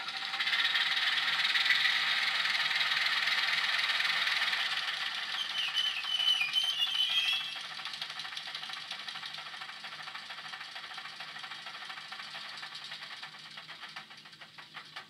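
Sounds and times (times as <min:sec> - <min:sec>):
small diesel engine idling: 0:00.0 - 0:14.9.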